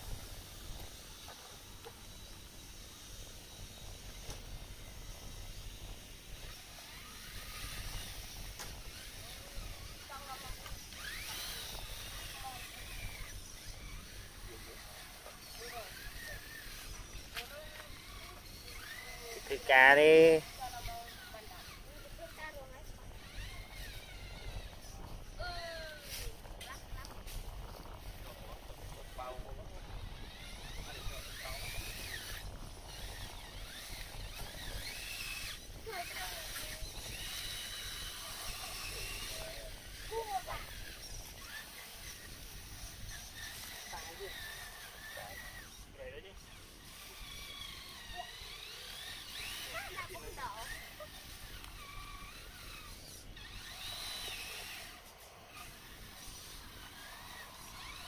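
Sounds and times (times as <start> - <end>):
small electric motors whining: 0.0 - 58.0.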